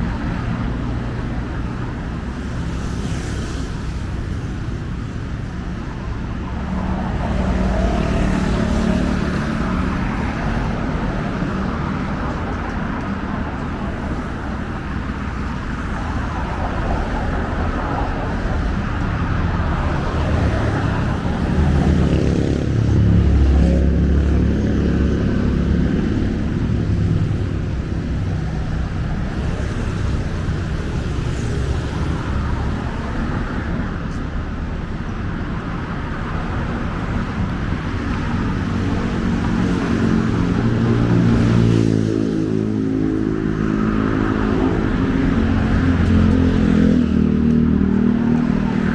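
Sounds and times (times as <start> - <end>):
vehicles passing: 0.0 - 48.9.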